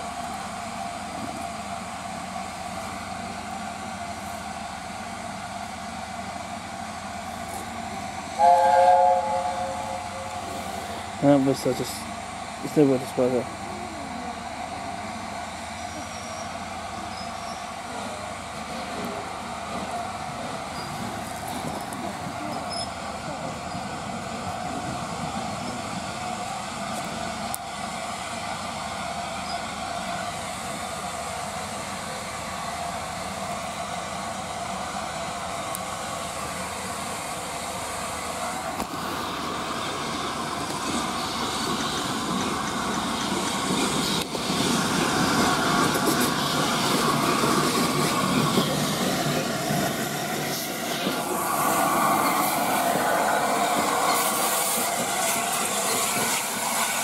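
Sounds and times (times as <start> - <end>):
steam locomotive passing: 0.0 - 57.0.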